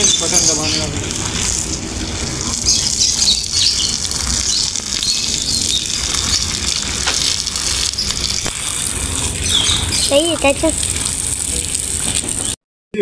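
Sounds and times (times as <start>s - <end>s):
hose water spraying onto grass: 0.0s - 12.6s.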